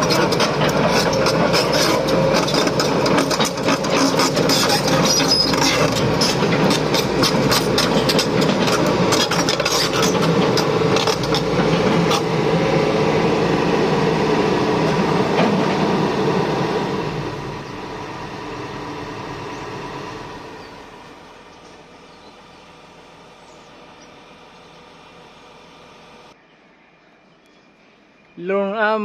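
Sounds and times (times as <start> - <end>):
excavator diesel engine running: 0.0 - 26.4.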